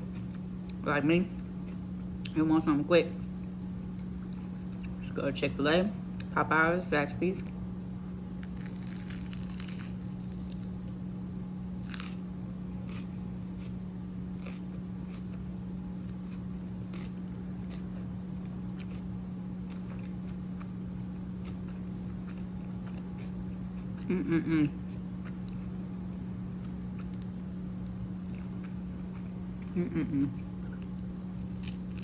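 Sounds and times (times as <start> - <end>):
crunching and chewing: 0.0 - 2.4, 3.3 - 5.1, 8.2 - 24.2, 24.8 - 32.0
steady low hum: 0.0 - 32.0.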